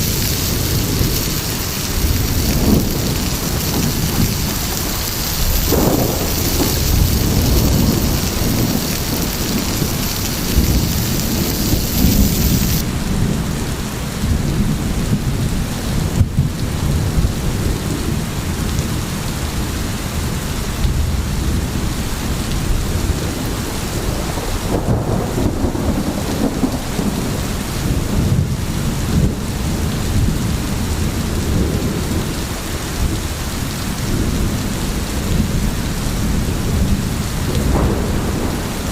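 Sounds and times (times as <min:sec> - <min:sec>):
low rumble of thunder: 0:00.0 - 0:38.9
steady rain: 0:00.0 - 0:38.9.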